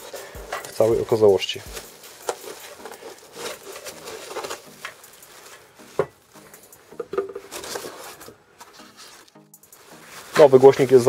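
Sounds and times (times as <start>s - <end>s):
foam and cardboard rustling: 0.0s - 11.0s.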